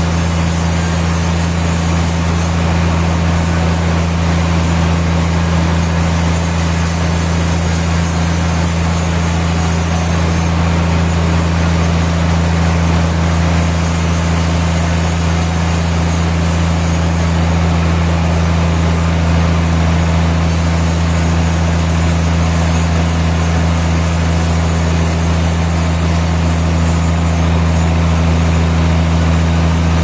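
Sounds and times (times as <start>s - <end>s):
sawmill machinery humming: 0.0s - 30.0s.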